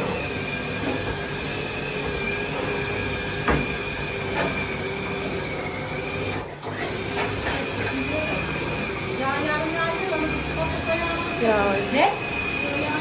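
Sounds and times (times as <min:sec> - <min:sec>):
food chopper motor whining: 0:00.0 - 0:13.0.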